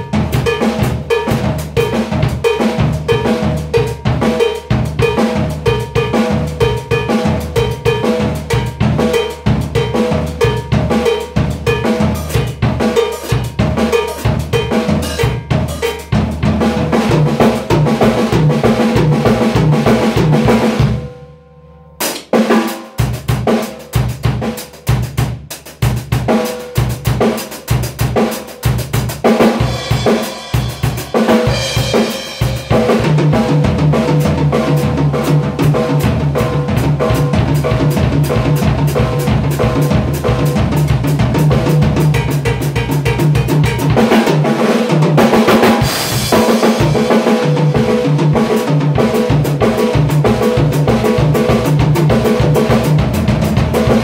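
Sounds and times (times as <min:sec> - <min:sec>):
drum kit groove: 0:00.0 - 0:21.2, 0:21.9 - 0:54.0.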